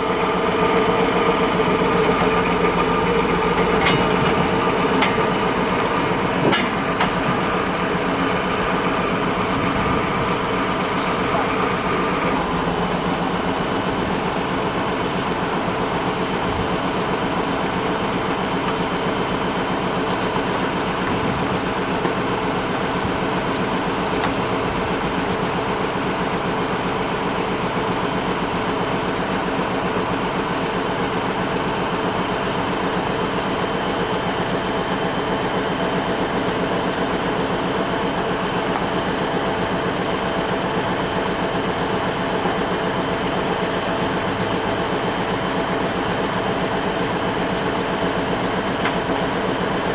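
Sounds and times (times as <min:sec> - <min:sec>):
heavy lorry engine idling: 0:00.0 - 0:49.9.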